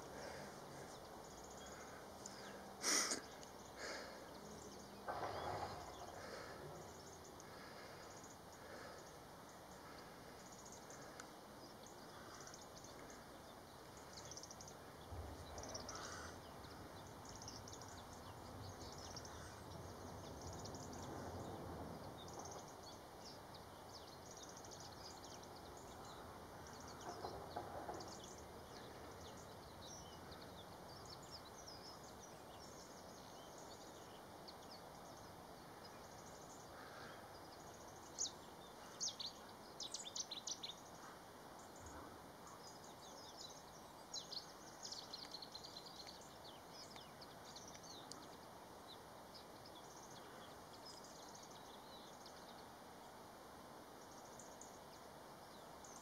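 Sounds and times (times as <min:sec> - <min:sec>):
faint outdoor ambience: 0:00.0 - 0:56.0.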